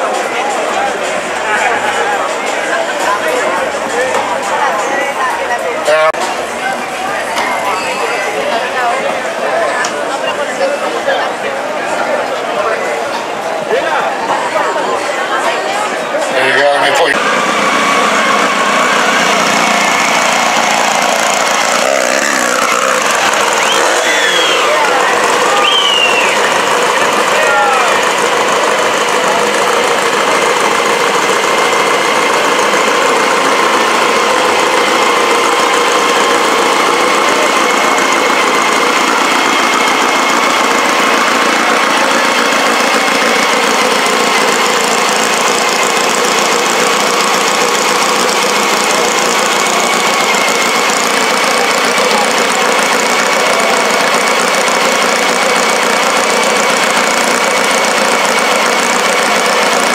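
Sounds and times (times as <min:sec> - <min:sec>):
engines idling: 0:00.0 - 0:59.9.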